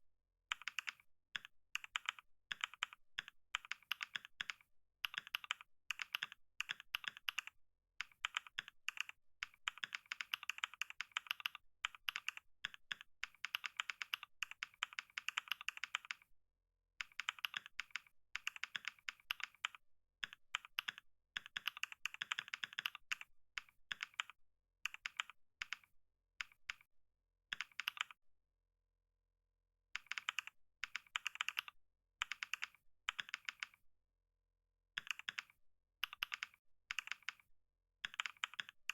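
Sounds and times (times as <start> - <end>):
fast keyboard typing: 0.5 - 16.2, 17.0 - 25.8, 27.5 - 28.2, 30.0 - 33.8, 35.0 - 37.4, 38.0 - 38.9.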